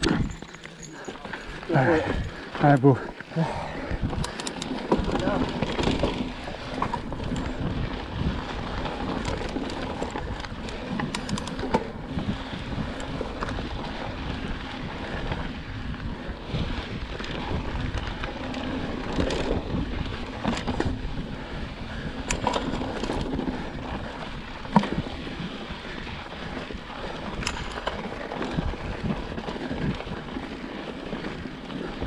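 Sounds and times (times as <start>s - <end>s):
bike rumbling on dirt trail: 0.0s - 32.0s
sharp clicks from bumps: 0.0s - 32.0s
wind buffeting microphone: 1.2s - 32.0s.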